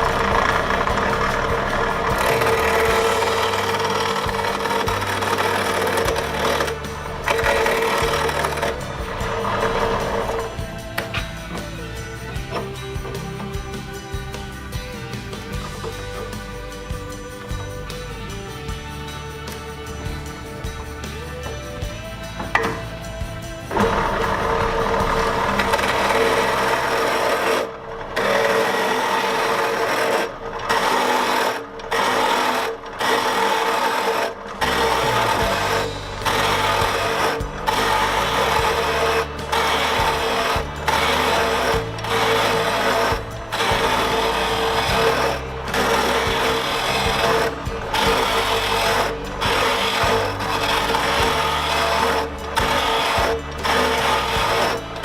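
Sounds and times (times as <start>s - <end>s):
gouge scraping wood on lathe: 0.0s - 18.9s, 19.5s - 55.0s
lathe humming: 0.0s - 55.0s.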